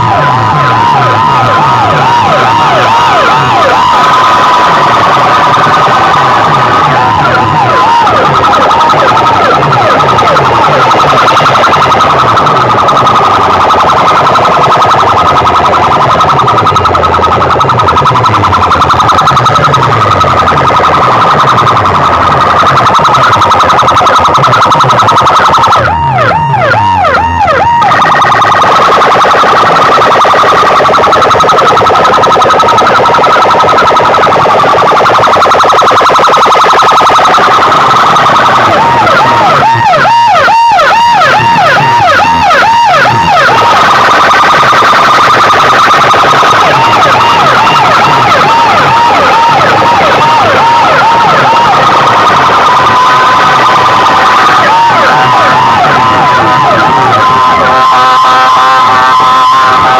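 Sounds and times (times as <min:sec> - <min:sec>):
loudspeakers blasting siren tone: 0:00.0 - 0:59.9.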